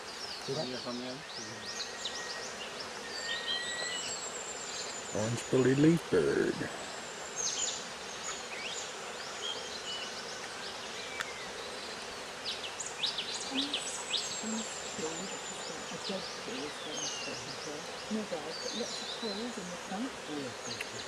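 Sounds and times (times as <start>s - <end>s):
steady insect buzz: 0.0s - 21.0s.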